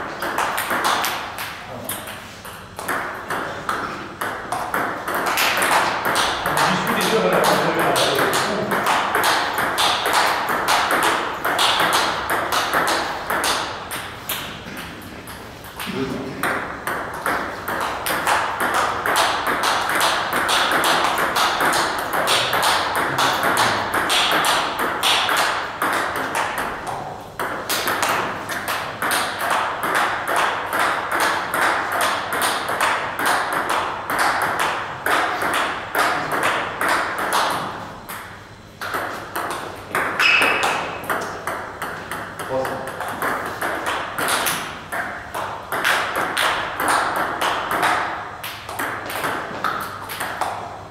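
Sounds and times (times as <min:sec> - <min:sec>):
table tennis balls clicking: 0:00.0 - 0:50.9.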